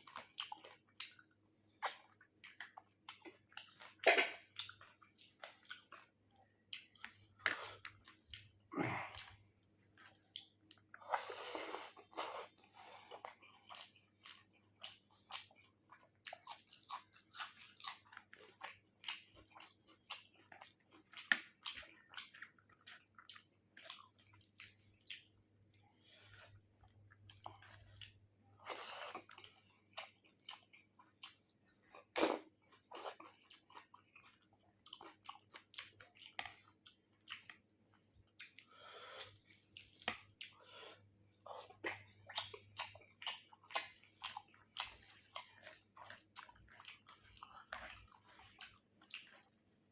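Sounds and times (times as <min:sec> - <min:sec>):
wet chewing and smacking: 0:00.0 - 0:49.9.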